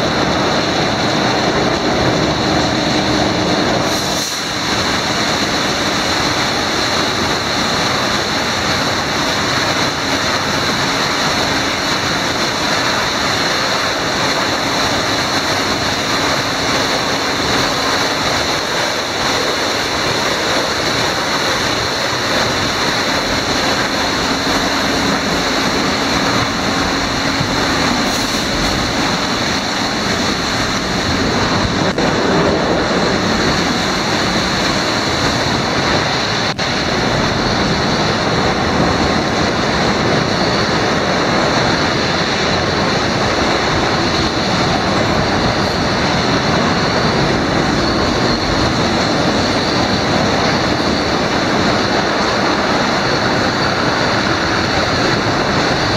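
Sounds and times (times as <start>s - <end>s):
faint machinery hum: 0.0s - 55.9s
water spray rushing onto car: 0.5s - 55.9s.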